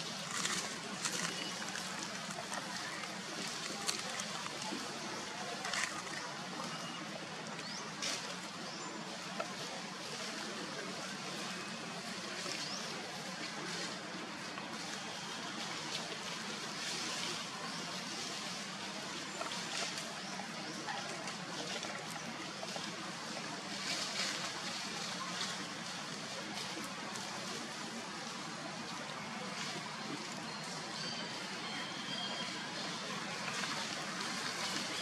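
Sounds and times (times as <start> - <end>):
dry leaves rustling: 0.0 - 7.0, 7.6 - 35.0.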